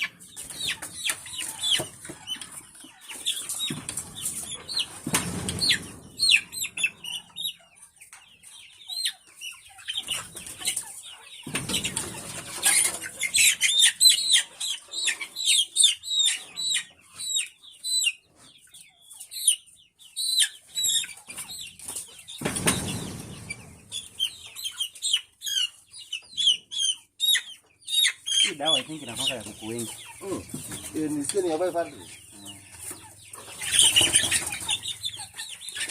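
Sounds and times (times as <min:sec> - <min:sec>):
chickens chirping: 0:00.0 - 0:35.9.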